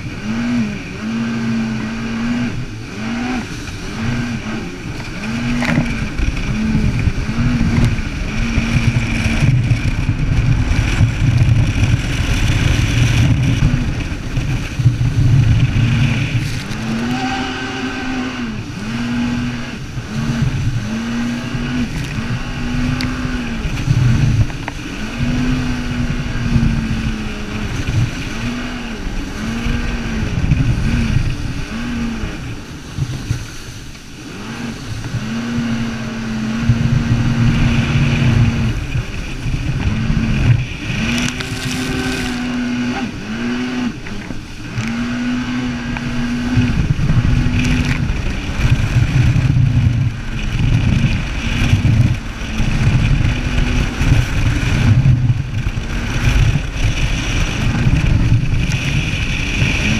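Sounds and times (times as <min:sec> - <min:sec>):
jet ski engine running: 0:00.0 - 0:59.9
rushing wind: 0:00.0 - 0:59.9
water noise: 0:00.0 - 0:59.9.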